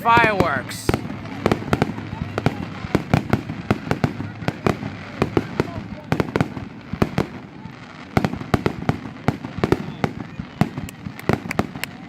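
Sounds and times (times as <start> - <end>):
continuous rumble: 0.0 - 12.0
fireworks bangs: 0.0 - 12.0.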